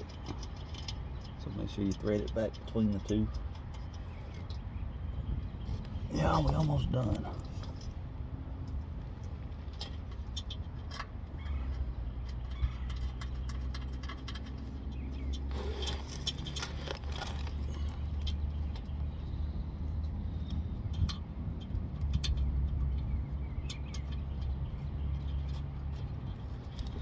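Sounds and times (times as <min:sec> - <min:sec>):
vehicle rumble: 0:00.0 - 0:27.0.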